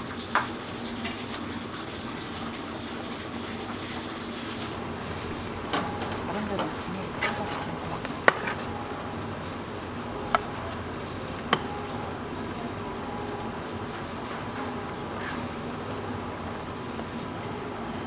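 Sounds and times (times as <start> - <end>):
steady hum: 1.0 - 18.0.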